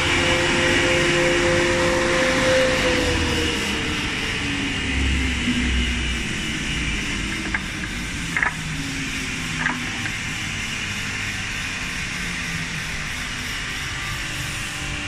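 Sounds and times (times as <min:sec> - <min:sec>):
woodworking machine hiss and hum: 0:00.0 - 0:15.0.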